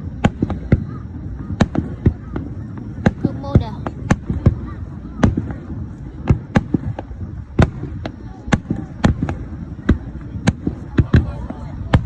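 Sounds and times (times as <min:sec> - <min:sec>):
firework shells bursting: 0:00.0 - 0:12.0
low rumble of fireworks: 0:00.0 - 0:12.0.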